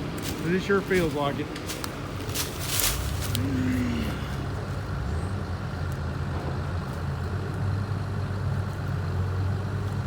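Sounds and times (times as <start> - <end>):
excavator diesel engine idling: 0.0 - 10.0.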